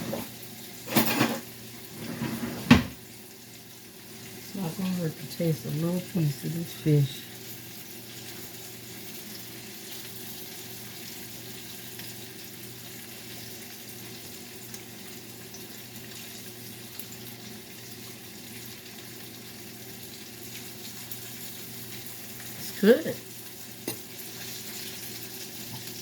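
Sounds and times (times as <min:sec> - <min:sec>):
oil sizzling in a pan: 0:00.0 - 0:02.0, 0:02.9 - 0:26.0.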